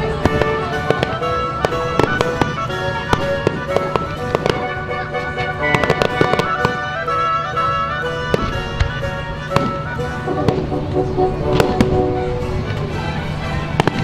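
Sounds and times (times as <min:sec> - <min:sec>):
fireworks bangs and crackles: 0:00.0 - 0:07.1, 0:08.3 - 0:08.8, 0:09.5 - 0:12.9, 0:13.7 - 0:14.0
music with held notes: 0:00.0 - 0:14.0.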